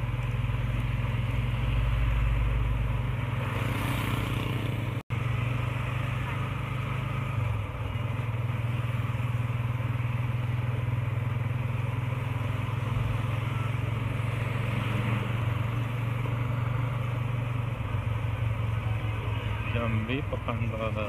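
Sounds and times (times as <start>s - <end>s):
motorcycle engine cruising: 0.0s - 21.0s
road and wind noise: 0.0s - 21.0s.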